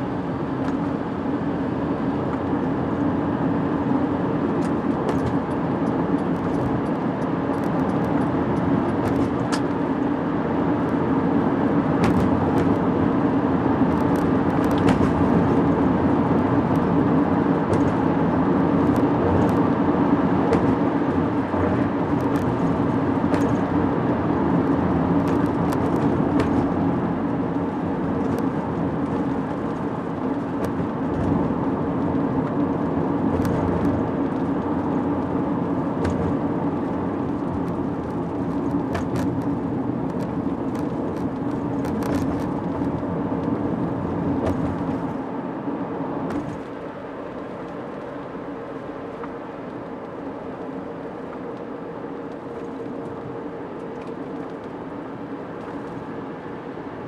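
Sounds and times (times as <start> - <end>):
car road noise on wet road: 0.0 - 57.0.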